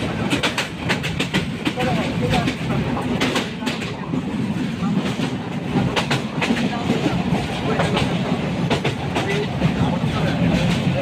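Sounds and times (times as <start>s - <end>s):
train carriage rumbling: 0.0s - 11.0s
wheels clacking over rail joints: 0.0s - 11.0s.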